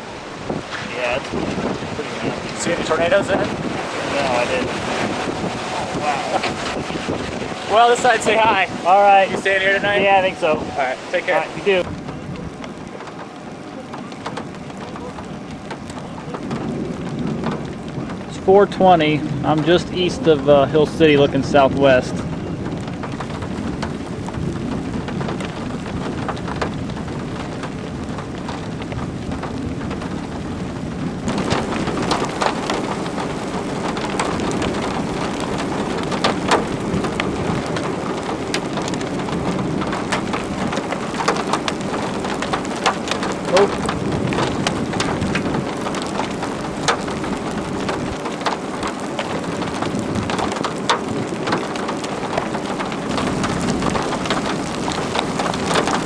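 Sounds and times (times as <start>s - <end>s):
rain falling: 0.0s - 56.0s
raindrops ticking close by: 0.0s - 56.0s.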